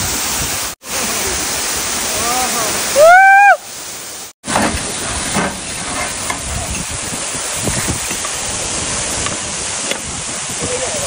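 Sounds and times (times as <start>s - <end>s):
hiss of cooking: 0.0s - 11.0s
rushing water: 0.0s - 11.0s.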